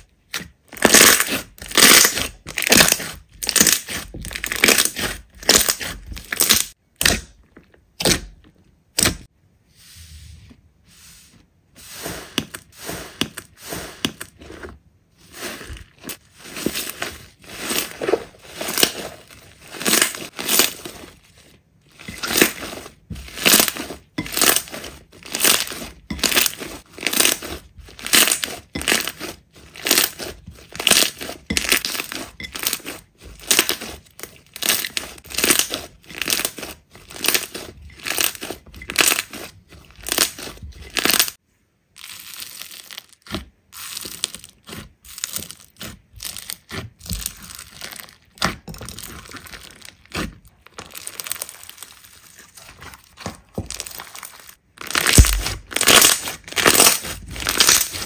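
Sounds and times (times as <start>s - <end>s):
slime squishing by hand: 0.0s - 10.2s, 10.8s - 58.0s.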